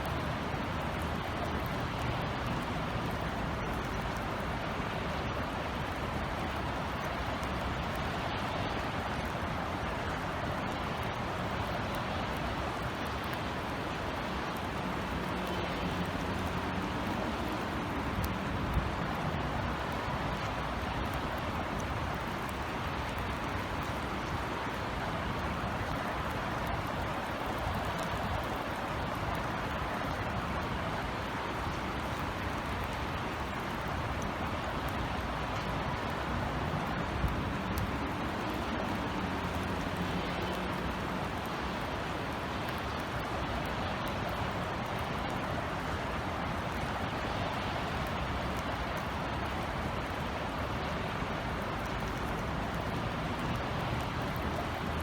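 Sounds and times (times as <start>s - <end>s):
city traffic hum: 0.0s - 55.0s.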